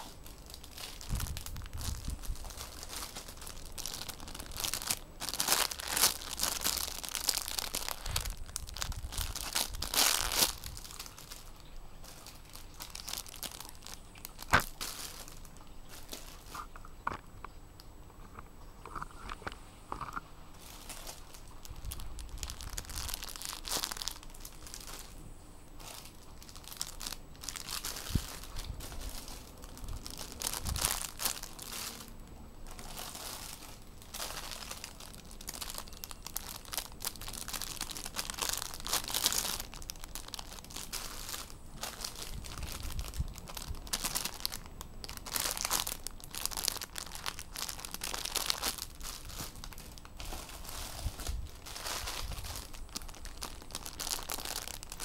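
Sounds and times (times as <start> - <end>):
plastic bags crinkling: 0.0 - 17.2, 20.0 - 55.0.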